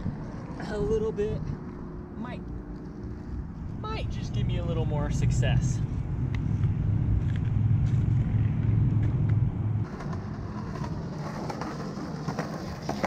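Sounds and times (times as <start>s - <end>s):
skateboard wheels rolling on concrete: 0.0s - 13.0s
vehicle engine humming: 0.0s - 13.0s.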